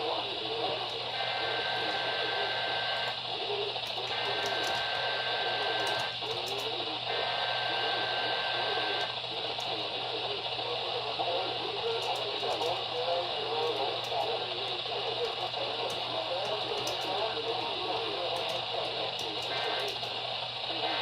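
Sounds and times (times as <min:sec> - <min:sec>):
faint voice: 0:00.0 - 0:21.0
radio hiss and static: 0:00.0 - 0:21.0.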